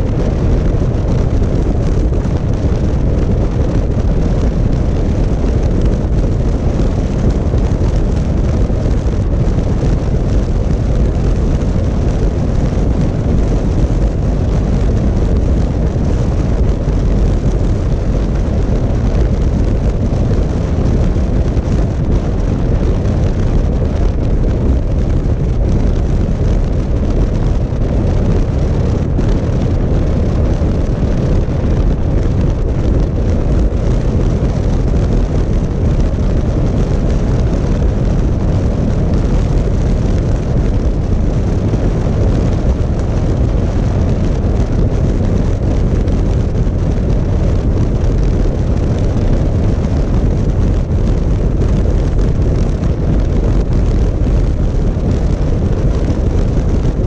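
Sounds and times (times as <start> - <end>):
motorcycle engine drone: 0.0 - 57.0
wind rushing over microphone: 0.0 - 57.0.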